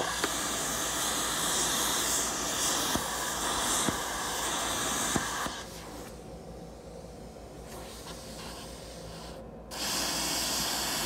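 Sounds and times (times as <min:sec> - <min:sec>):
plasma cutter hissing: 0:00.0 - 0:06.1, 0:07.7 - 0:11.0.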